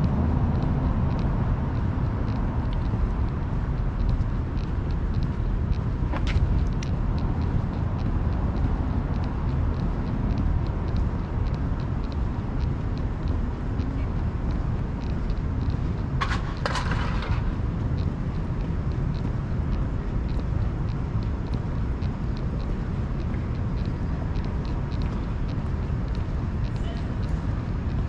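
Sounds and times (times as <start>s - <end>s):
distant traffic rumble: 0.0s - 28.0s
faint regular ticks: 0.0s - 28.0s.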